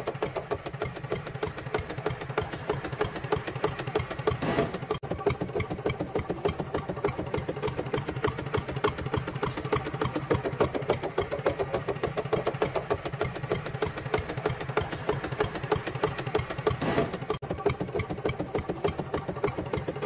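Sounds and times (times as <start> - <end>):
plough pulled through soil: 0.0 - 20.0
small motor clattering: 0.0 - 20.0.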